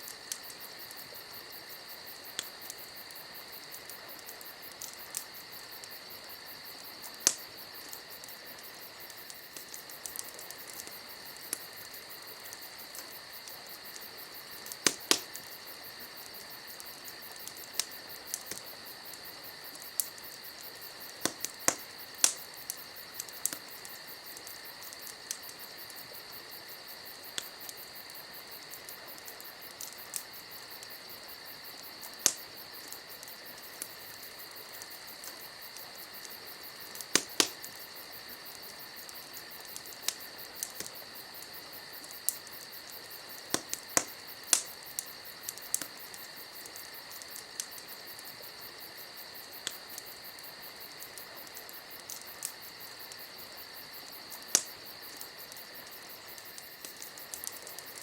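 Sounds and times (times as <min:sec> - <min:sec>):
campfire crackling and popping: 0:00.0 - 0:58.0
high-pitched insect chorus: 0:00.0 - 0:58.0.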